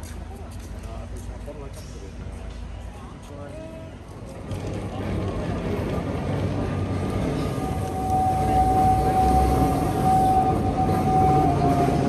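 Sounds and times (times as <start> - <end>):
people chattering: 0.0 - 12.0
electric tram whine: 2.2 - 12.0.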